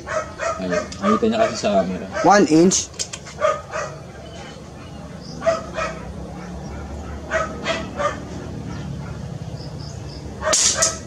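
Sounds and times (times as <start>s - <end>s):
dog barking: 0.0s - 2.5s, 3.3s - 9.3s, 10.4s - 11.0s.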